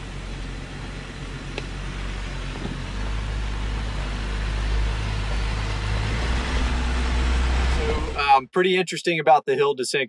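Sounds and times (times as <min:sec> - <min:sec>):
car engine idling: 0:00.0 - 0:08.3.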